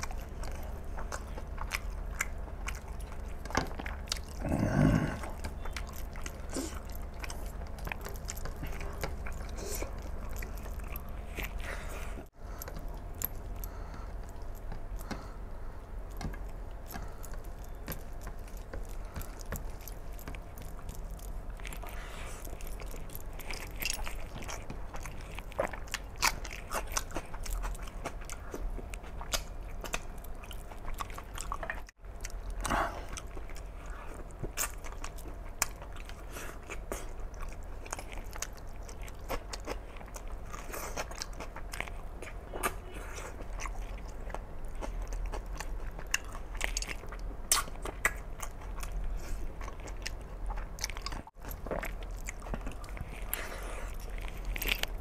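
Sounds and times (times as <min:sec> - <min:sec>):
man chewing food: 0:00.0 - 0:55.0.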